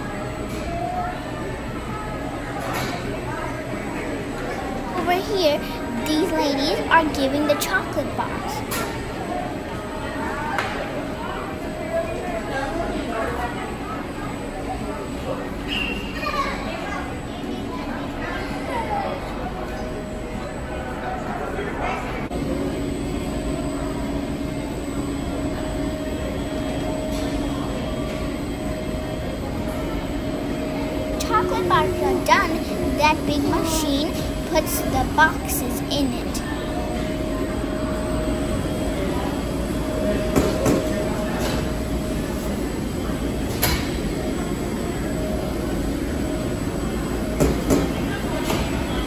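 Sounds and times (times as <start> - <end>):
faint steady whine: 0.0 - 49.0
machinery hum: 0.0 - 49.0.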